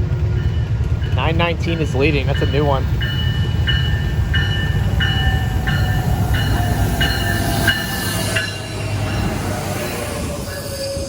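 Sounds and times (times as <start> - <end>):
train rumbling: 0.0 - 11.0
warning bell ringing: 0.4 - 10.7
brakes squealing: 0.4 - 11.0.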